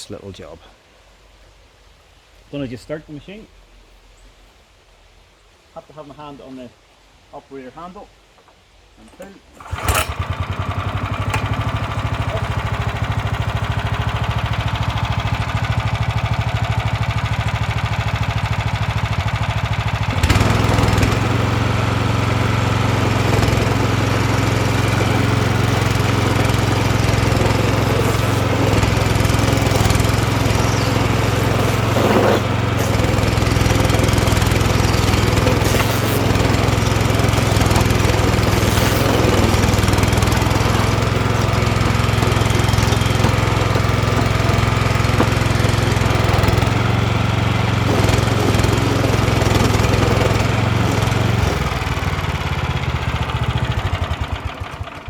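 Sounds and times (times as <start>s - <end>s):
stump grinder engine running: 9.5s - 55.0s
cutter grinding tree stump: 9.6s - 55.0s.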